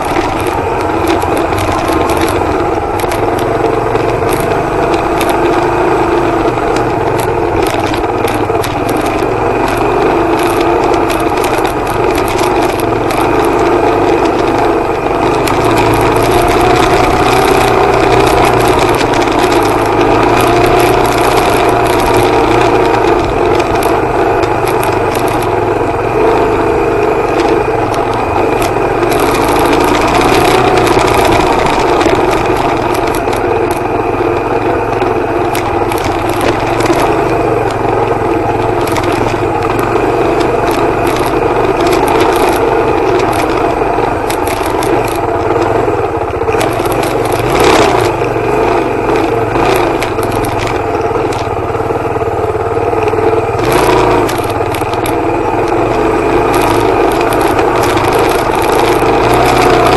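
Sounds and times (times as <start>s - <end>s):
clicks and rattles: 0.0s - 59.9s
motorcycle engine running: 0.0s - 59.9s.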